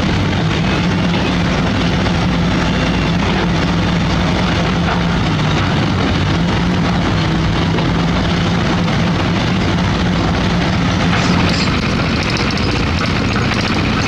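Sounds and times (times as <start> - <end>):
heavy machinery diesel engine running: 0.0 - 14.0.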